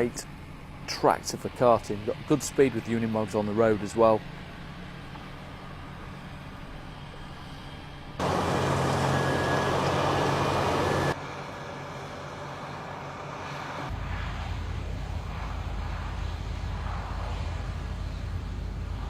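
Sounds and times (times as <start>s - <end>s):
heavy farm vehicle engines running: 0.0s - 19.0s.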